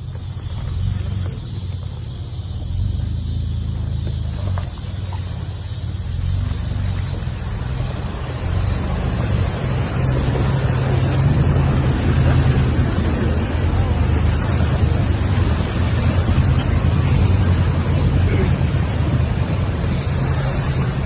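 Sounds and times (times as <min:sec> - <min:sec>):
vehicle engine running: 0:00.0 - 0:21.0
wind noise on microphone: 0:00.0 - 0:21.0.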